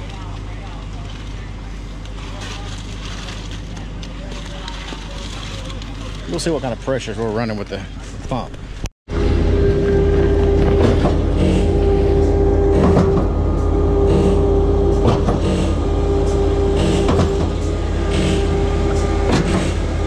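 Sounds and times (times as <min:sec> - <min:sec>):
concrete pump running: 0:00.0 - 0:08.2, 0:09.1 - 0:20.0.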